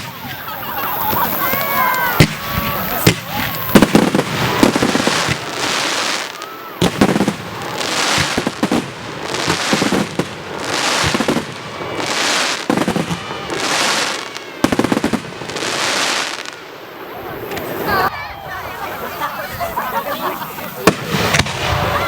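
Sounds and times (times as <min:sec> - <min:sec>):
rapid firework cracks: 0:00.0 - 0:18.1, 0:20.4 - 0:22.0
crackling hiss of fireworks: 0:00.0 - 0:22.0
firework bangs: 0:00.0 - 0:22.0.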